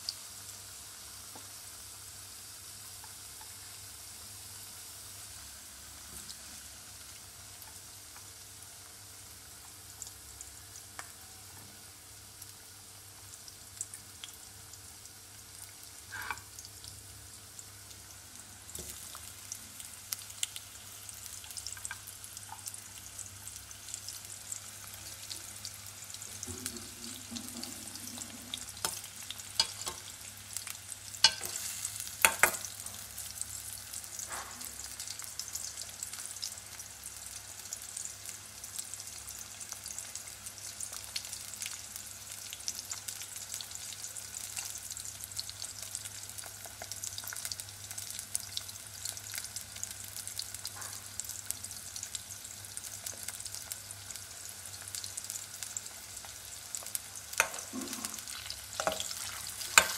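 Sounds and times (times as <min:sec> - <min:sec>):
chips sizzling in oil: 0:00.0 - 0:59.9.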